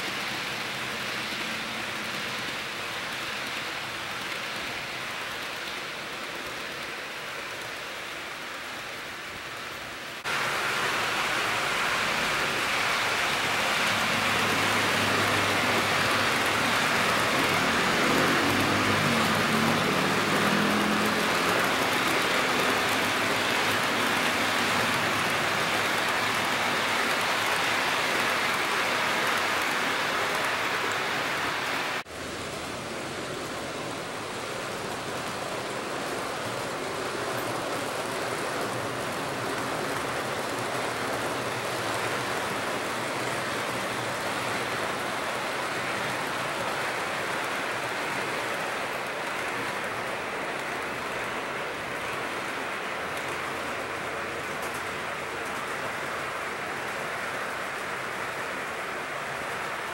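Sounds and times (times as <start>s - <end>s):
model train wheels on rails: 0.0s - 59.9s.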